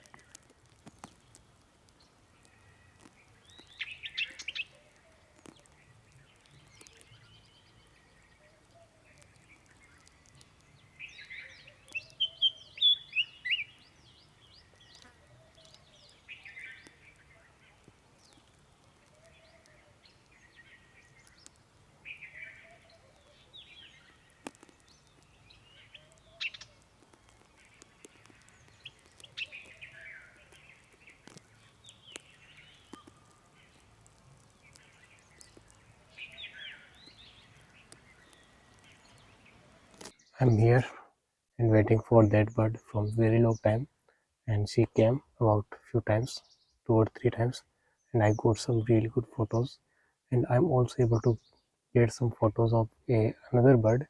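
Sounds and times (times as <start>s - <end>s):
birds chirping: 0.0s - 41.0s, 41.6s - 43.9s, 44.5s - 54.0s.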